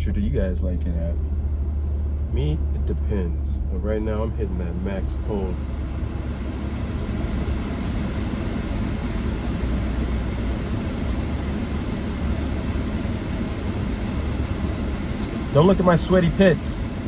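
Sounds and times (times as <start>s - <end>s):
car air conditioning blower rushing: 0.0s - 17.0s
low car rumble: 0.0s - 17.0s.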